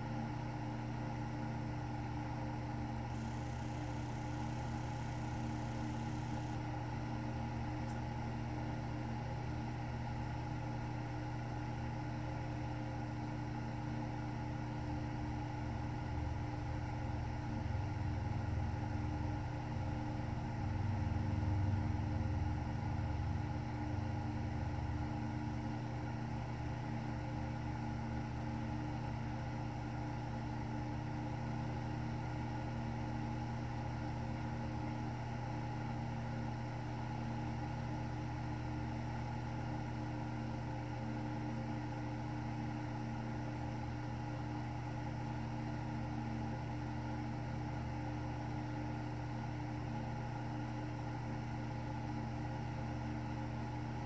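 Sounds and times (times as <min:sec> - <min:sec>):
low mechanical hum with tones: 0:00.0 - 0:54.0.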